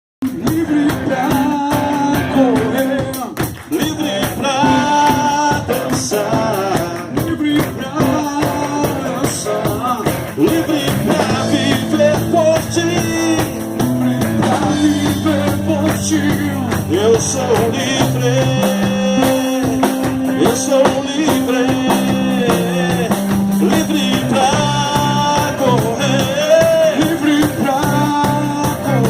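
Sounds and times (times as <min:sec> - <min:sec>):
bass guitar: 0:00.2 - 0:29.0
drum kit: 0:00.2 - 0:29.0
guitar melody: 0:04.1 - 0:29.0.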